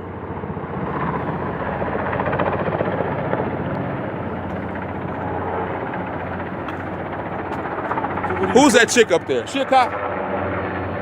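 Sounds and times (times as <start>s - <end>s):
engine hum: 0.0s - 11.0s
helicopter rotor chop: 0.0s - 11.0s.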